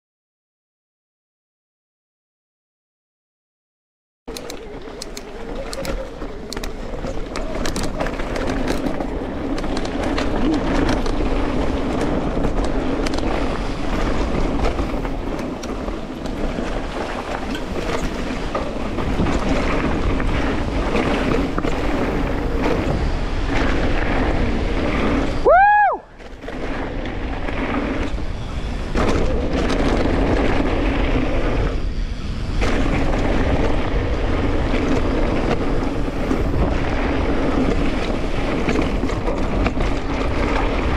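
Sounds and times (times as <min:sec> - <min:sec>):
bike rumbling on dirt trail: 0:04.3 - 0:40.9
wind rushing over microphone: 0:04.3 - 0:40.9.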